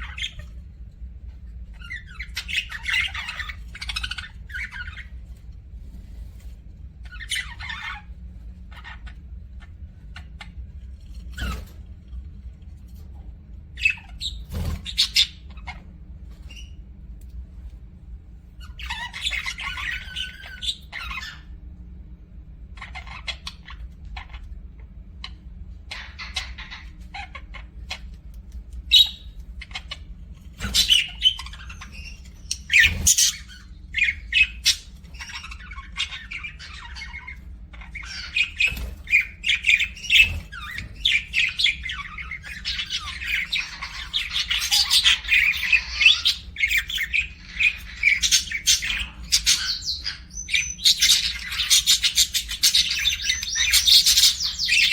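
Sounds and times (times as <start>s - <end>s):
budgerigars chirping and squawking: 0.0s - 54.9s
steady low hum: 0.0s - 54.9s.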